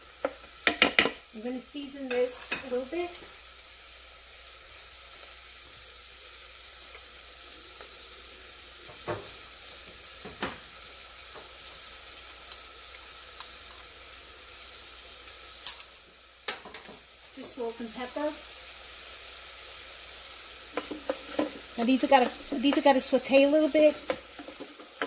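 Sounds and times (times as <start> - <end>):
onions sizzling: 0.0 - 25.0.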